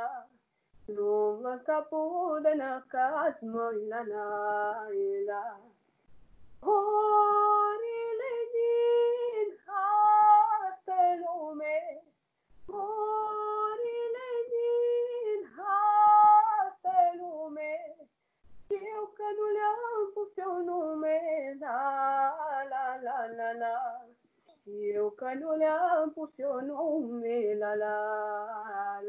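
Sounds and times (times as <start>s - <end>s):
woman singing: 0.0s - 5.7s, 6.6s - 12.1s, 12.7s - 18.1s, 18.7s - 29.0s.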